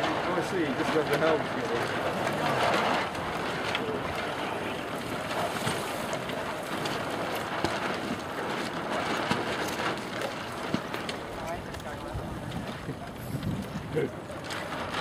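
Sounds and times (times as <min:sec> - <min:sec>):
strong wind on microphone: 0:02.0 - 0:15.0.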